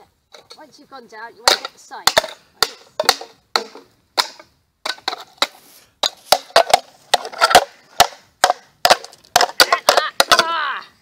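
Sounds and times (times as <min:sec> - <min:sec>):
hammer crushing tin cans: 0:01.5 - 0:10.5.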